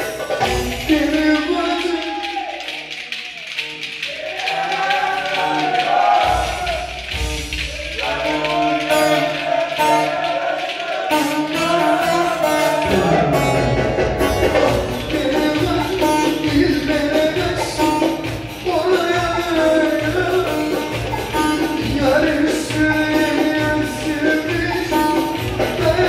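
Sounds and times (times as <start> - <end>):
folk dance melody: 0.0 - 26.0
steady percussion beat: 0.0 - 26.0.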